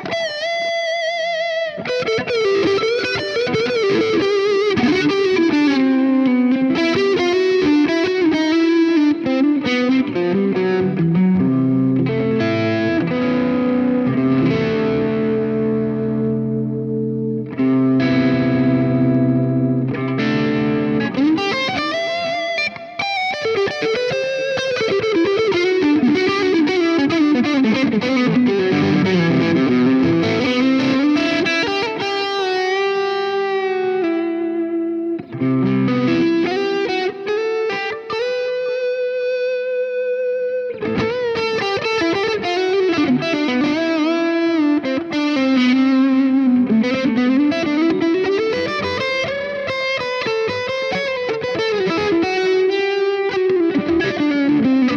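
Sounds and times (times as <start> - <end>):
overdriven electric guitar: 0.0 - 54.9.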